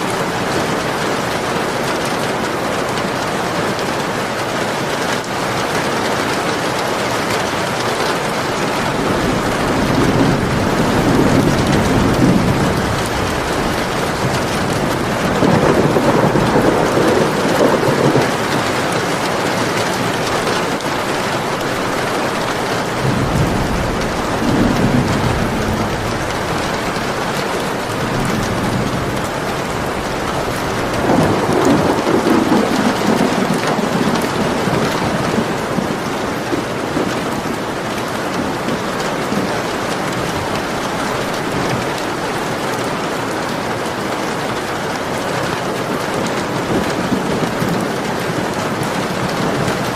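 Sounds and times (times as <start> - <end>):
heavy rain hissing: 0.0 - 49.9
thunder rumbling: 7.4 - 49.9.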